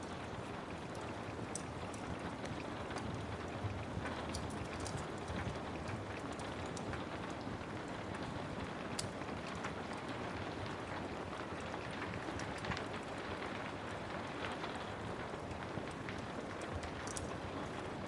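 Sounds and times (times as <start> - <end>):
steady rain: 0.0 - 18.0
wood fire crackling: 0.0 - 18.0.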